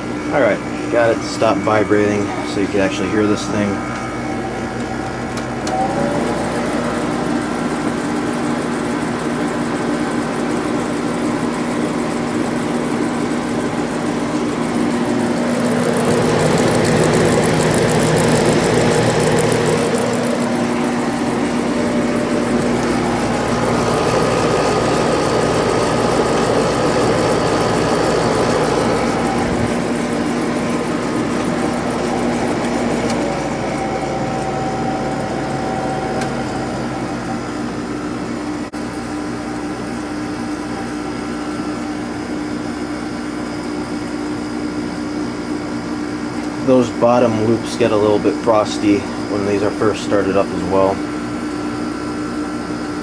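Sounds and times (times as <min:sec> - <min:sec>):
window air conditioner running: 0:00.0 - 0:53.0.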